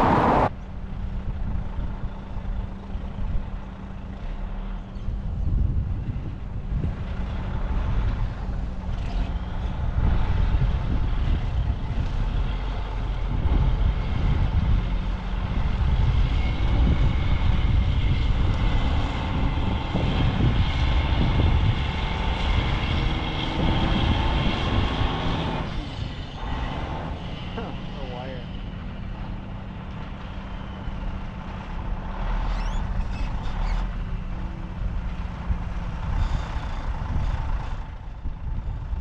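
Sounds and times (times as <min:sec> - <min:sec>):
heavy engine rumble: 0:00.0 - 0:39.0.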